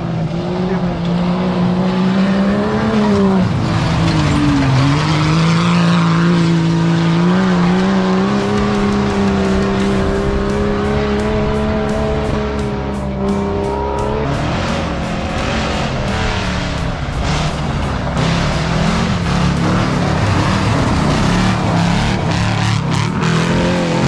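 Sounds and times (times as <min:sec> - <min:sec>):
engine running hard: 0:00.0 - 0:24.0.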